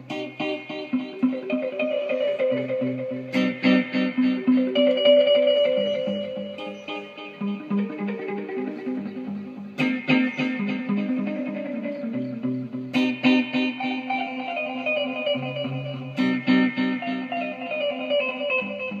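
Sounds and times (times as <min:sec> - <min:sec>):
plucked string music with bass: 0:00.0 - 0:19.0.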